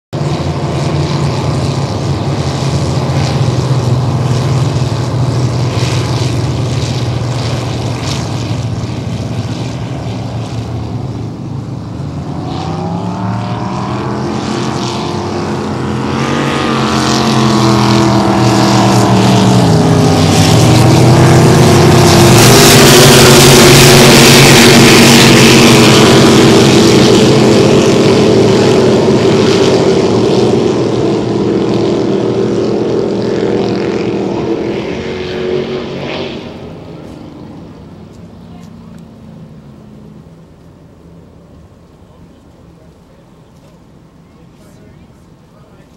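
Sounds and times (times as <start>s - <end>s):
drag boat engines racing past: 0.2s - 45.9s
rushing hiss of passing boats: 0.2s - 45.9s.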